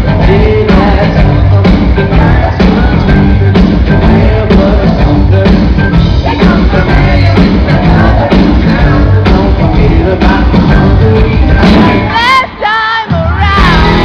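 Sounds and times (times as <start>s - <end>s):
drums: 0.0s - 14.0s
live rock band playing: 0.0s - 14.0s
person singing: 0.0s - 14.0s.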